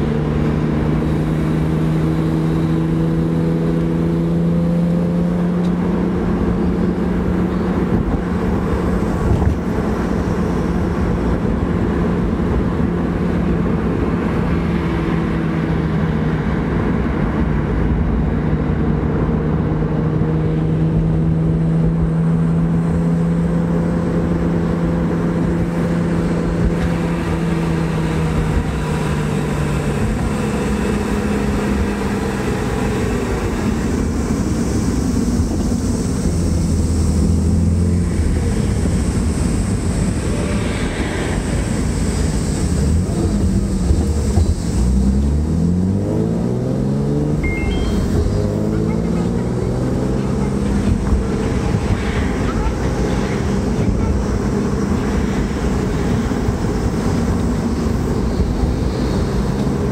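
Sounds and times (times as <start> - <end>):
car engine cruising: 0.0 - 59.9
road and tyre rumble: 0.0 - 59.9.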